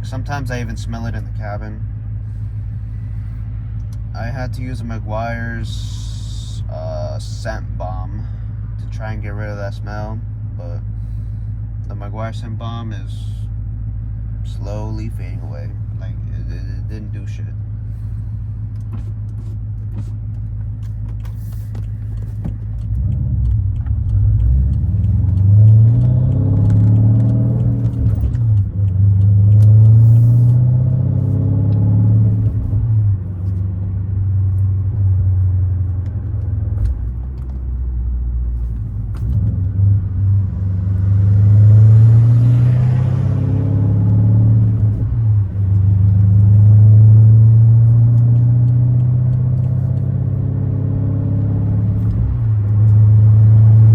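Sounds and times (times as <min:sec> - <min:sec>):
car exhaust drone while accelerating: 0:00.0 - 0:53.9.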